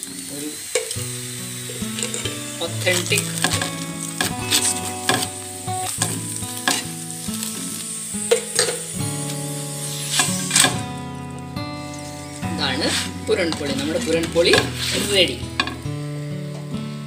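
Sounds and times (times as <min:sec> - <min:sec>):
ghee sizzling in a frying pan: 0:00.0 - 0:17.0.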